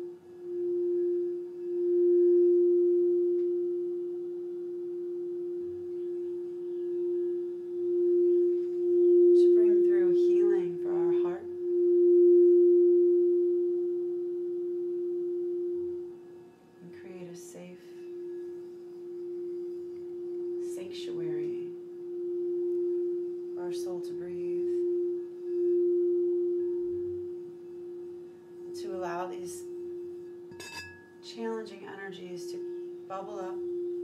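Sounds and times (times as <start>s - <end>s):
crystal singing bowl ringing: 0.0s - 34.0s.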